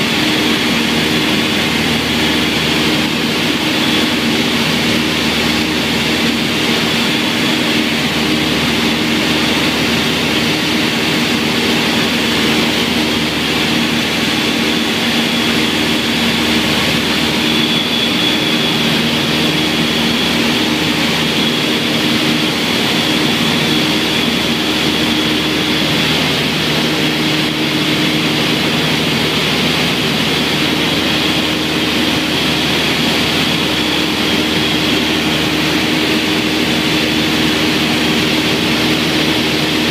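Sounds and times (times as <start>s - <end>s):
aircraft engines droning: 0.0s - 39.9s
high whine: 0.0s - 39.9s.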